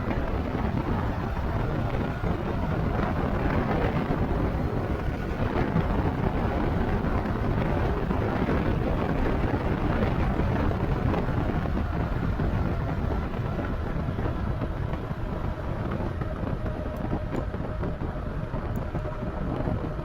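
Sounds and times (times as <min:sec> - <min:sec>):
road noise: 0:00.0 - 0:20.0
wind rush on microphone: 0:00.0 - 0:20.0.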